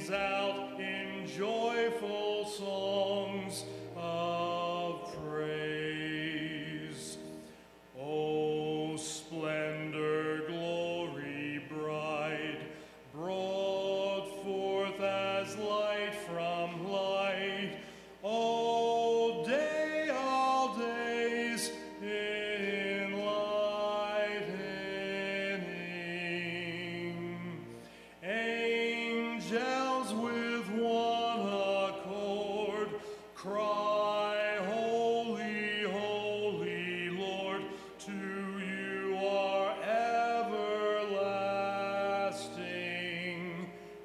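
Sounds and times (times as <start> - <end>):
man singing a hymn: 0.0 - 44.0.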